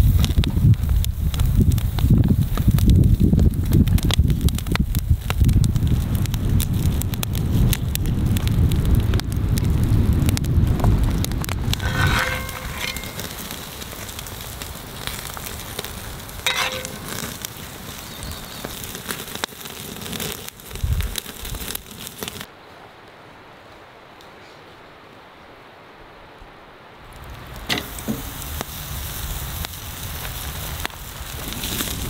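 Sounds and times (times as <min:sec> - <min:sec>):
campfire crackling and popping: 0:00.0 - 0:24.3, 0:27.0 - 0:32.0.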